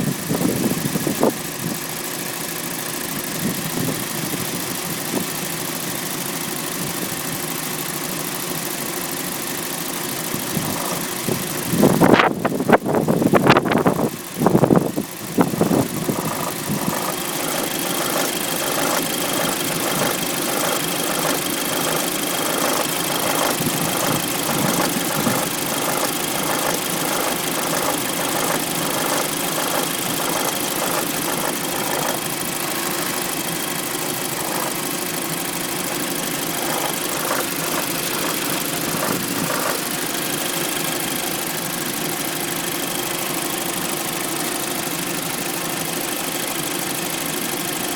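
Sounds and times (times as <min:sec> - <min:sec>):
car engine idling: 0:00.0 - 0:47.9
fast even engine clatter: 0:00.0 - 0:47.9.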